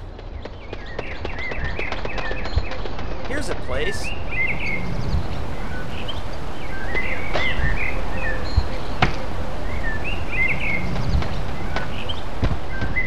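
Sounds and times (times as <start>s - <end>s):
outdoor ambience: 0.0s - 13.0s.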